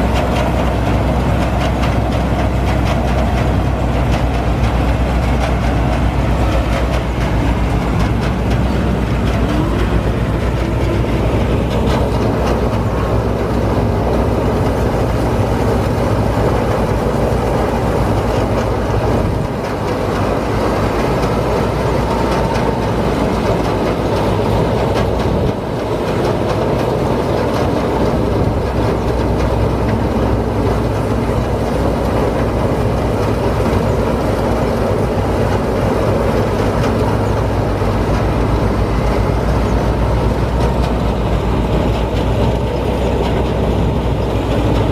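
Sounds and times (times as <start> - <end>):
combine harvester engine: 0.0 - 44.9.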